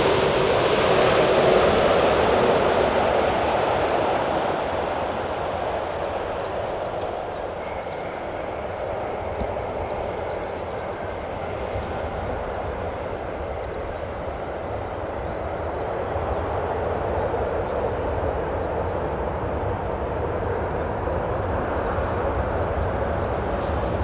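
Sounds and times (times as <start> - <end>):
jet engines roaring: 0.0 - 24.0
small birds chirping: 4.4 - 24.0.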